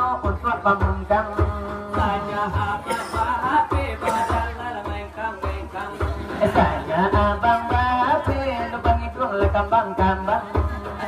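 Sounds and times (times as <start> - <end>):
beats on brass tray: 0.1 - 11.0.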